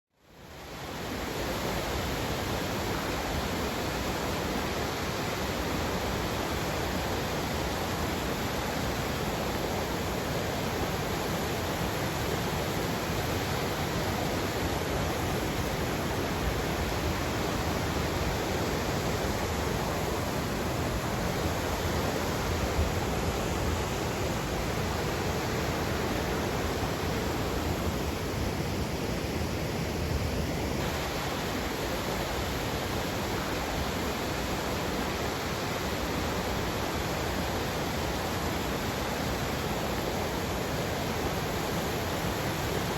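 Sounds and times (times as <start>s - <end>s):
river rushing: 0.2s - 42.9s.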